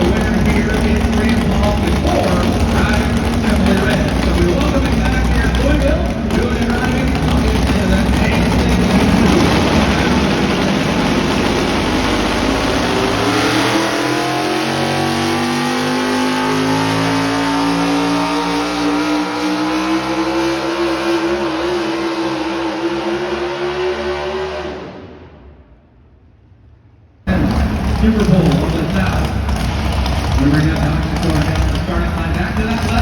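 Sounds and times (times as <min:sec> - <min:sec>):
truck engine at full throttle: 0:00.0 - 0:25.7, 0:27.3 - 0:33.0.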